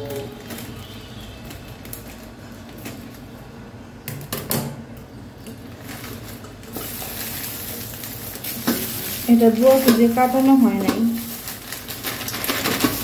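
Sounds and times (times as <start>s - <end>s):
plastic bag crinkling: 0.0s - 3.4s, 5.5s - 13.0s.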